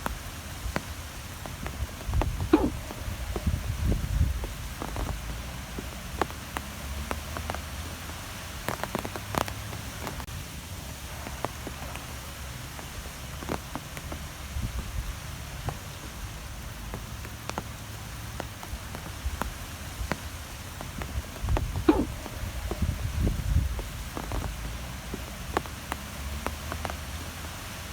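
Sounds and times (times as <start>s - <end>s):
wind blowing: 0.0s - 27.9s.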